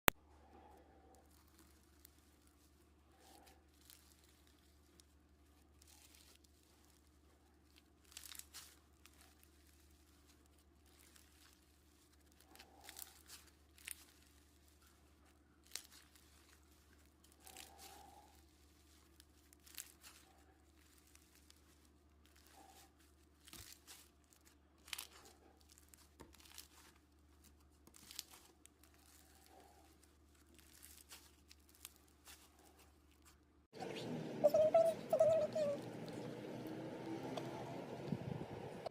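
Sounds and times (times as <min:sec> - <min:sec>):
low steady hum: 0:00.1 - 0:38.9
slime crackling and popping: 0:01.1 - 0:33.5.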